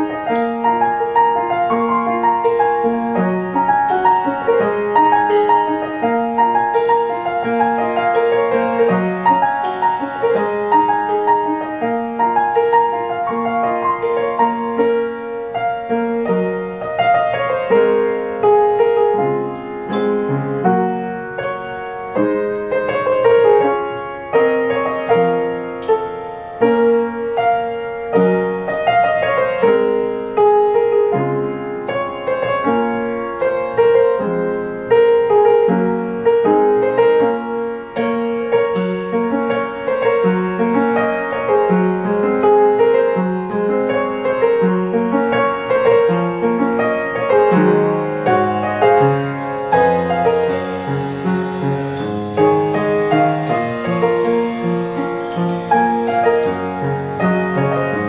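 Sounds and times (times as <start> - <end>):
piano: 0.0 - 58.0.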